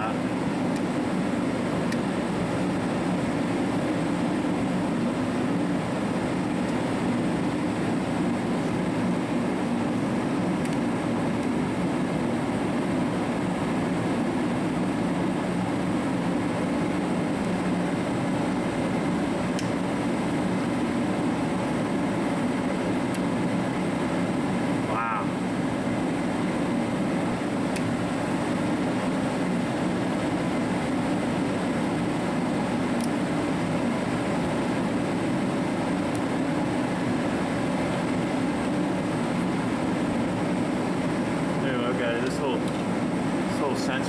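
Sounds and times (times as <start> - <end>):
heater humming and blowing air: 0.0 - 44.0.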